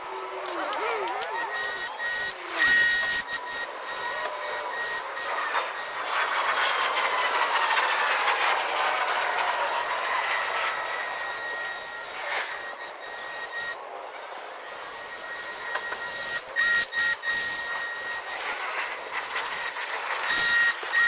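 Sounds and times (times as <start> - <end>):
electric lawn mower running: 0.0 - 21.0.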